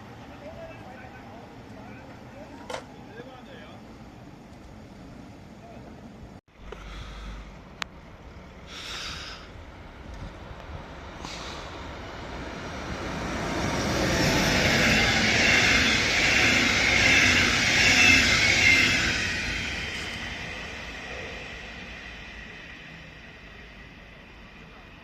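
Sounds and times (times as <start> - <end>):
electric train rumbling past: 0.0 - 25.0.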